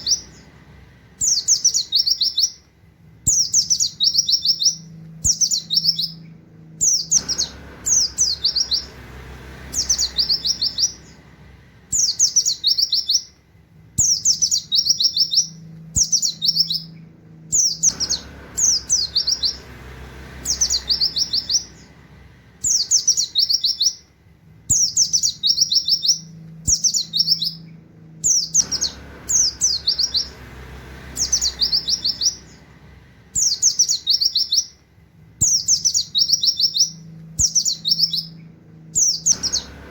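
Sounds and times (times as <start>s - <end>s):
songbird high chattering song: 0.0s - 13.4s, 14.0s - 34.8s, 35.4s - 39.9s.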